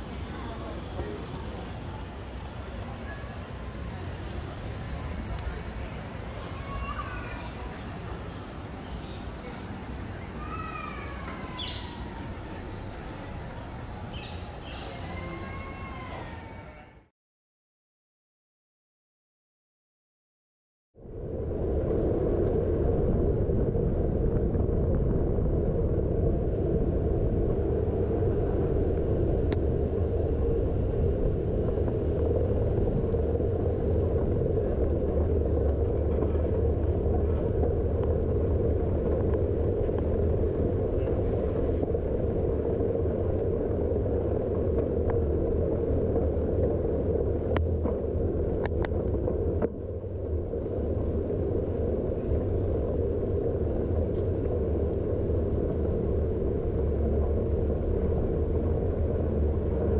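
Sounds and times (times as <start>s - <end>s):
city street rumble: 0.0s - 17.1s, 21.0s - 59.9s.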